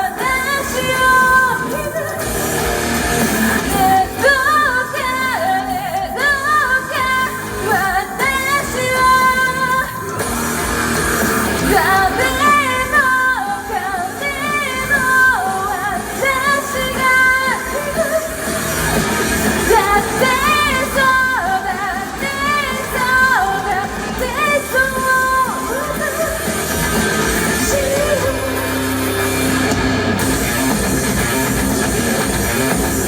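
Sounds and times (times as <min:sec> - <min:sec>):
lead singer singing: 0:00.0 - 0:33.0
rock band playing: 0:00.0 - 0:33.0.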